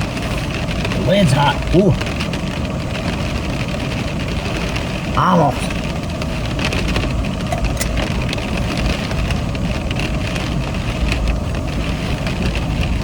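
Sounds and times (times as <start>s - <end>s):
strong wind buffeting car: 0.0s - 13.0s.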